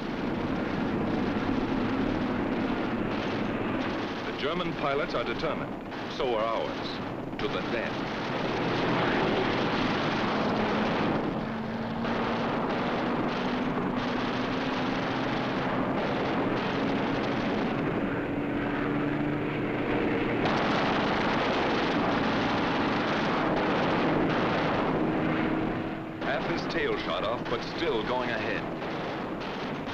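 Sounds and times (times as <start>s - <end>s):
dense rushing noise: 0.0s - 29.9s
propeller aircraft engines droning: 0.0s - 29.9s.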